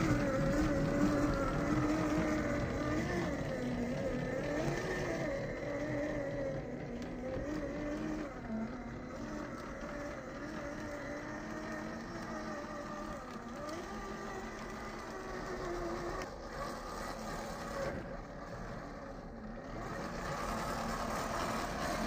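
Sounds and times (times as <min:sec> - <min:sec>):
electric motor and gearbox whining: 0:00.0 - 0:22.0.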